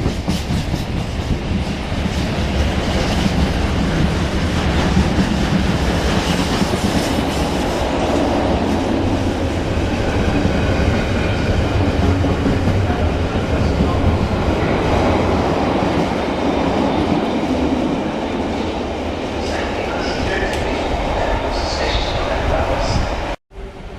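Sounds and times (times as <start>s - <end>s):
train wheels clattering on track: 0.0s - 20.8s.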